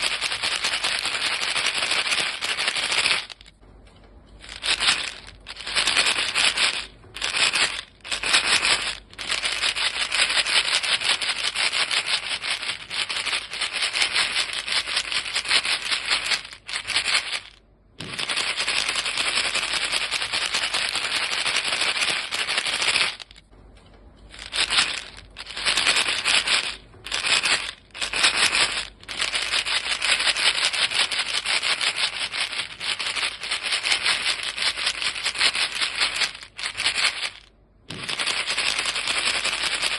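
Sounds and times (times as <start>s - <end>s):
box of gum pellets rattling: 0.0s - 3.6s, 4.3s - 23.5s, 24.2s - 39.9s.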